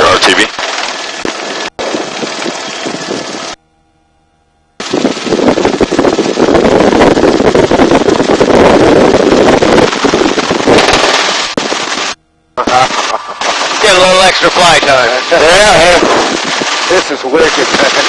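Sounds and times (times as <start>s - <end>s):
helicopter cabin noise: 0.0s - 3.6s, 4.8s - 18.0s
wind buffeting microphone: 0.7s - 3.6s, 4.8s - 18.0s.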